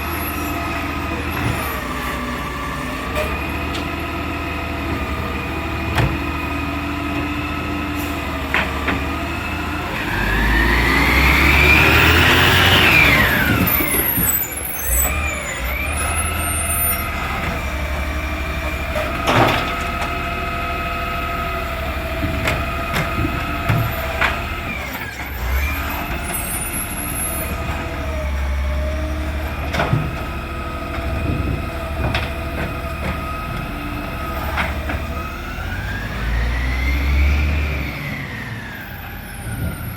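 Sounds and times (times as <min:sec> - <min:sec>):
garbage truck engine whining: 0:00.0 - 0:39.9.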